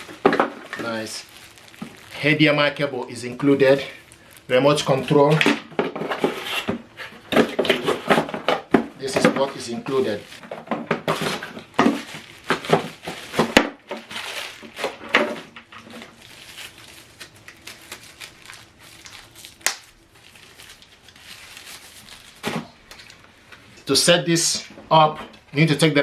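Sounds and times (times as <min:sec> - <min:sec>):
plastic packaging crinkling: 0:00.0 - 0:23.8.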